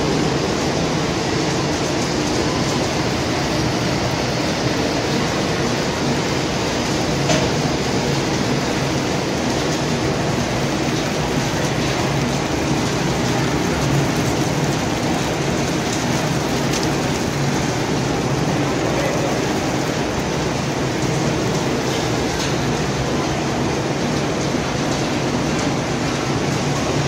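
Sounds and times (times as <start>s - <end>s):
machinery running: 0.0s - 27.0s.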